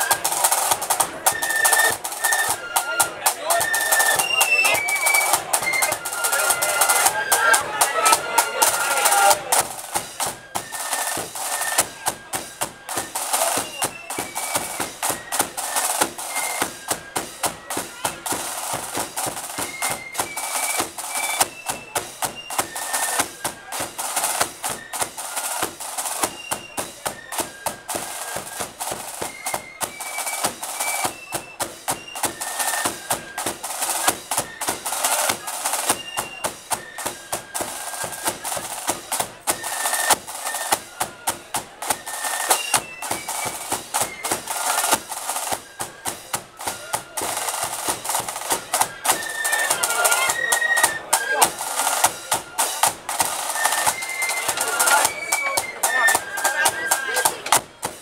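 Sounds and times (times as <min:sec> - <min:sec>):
massed flutes playing a march: 0:00.0 - 0:58.0
snare drum strokes and rolls: 0:00.0 - 0:58.0.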